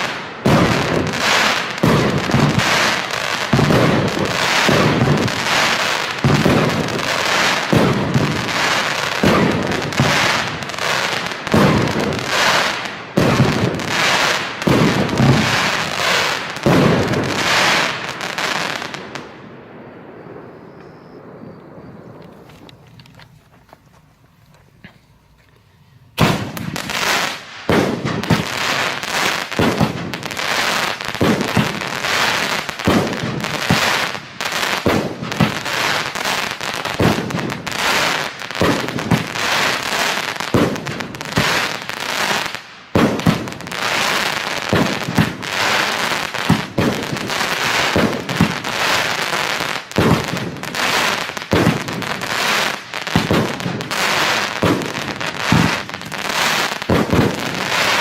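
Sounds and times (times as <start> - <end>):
firework crackling: 0.0 - 58.0.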